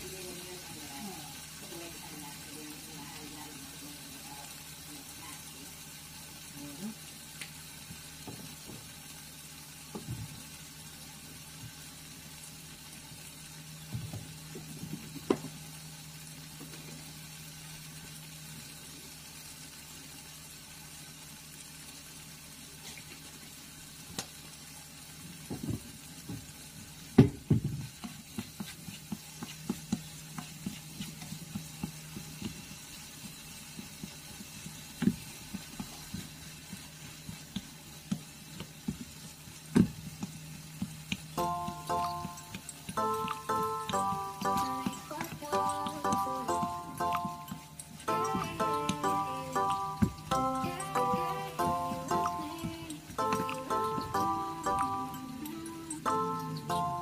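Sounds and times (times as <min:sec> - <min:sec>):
food sizzling in a skillet: 0:00.0 - 0:57.0.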